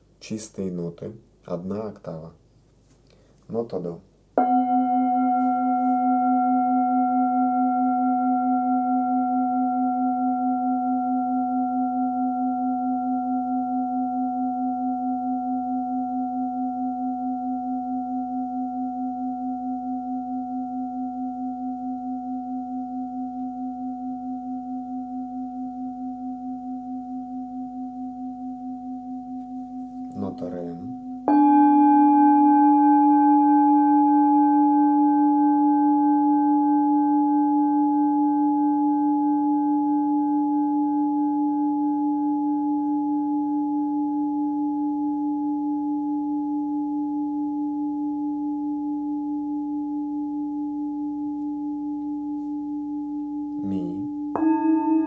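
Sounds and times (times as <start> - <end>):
singing bowl ringing: 4.4 - 55.0.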